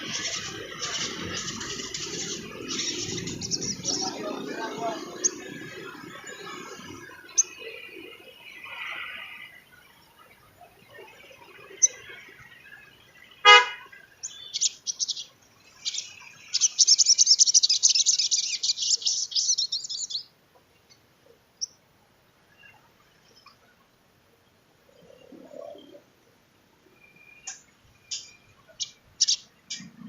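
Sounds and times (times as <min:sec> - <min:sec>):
bird twittering song: 0:00.0 - 0:21.8, 0:26.8 - 0:30.0.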